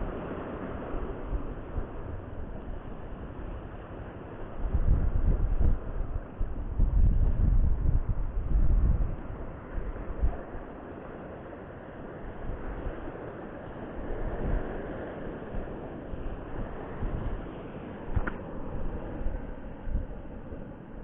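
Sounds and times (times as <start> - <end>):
sea waves breaking on shore: 0.0 - 6.8, 8.0 - 21.0
wind gusting on microphone: 0.0 - 21.0.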